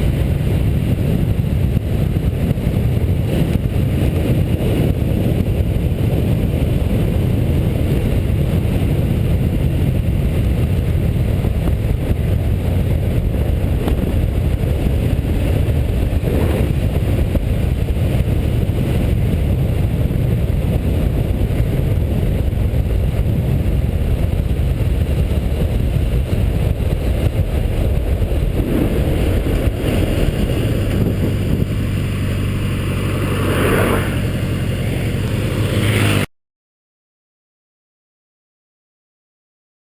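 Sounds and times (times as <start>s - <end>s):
motorcycle engine: 0.0s - 36.3s
wind on microphone: 0.0s - 36.3s.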